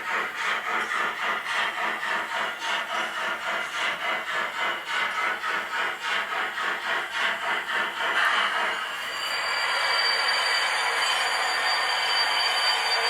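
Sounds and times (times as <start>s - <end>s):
model steam locomotive chuffs: 0.0s - 13.0s.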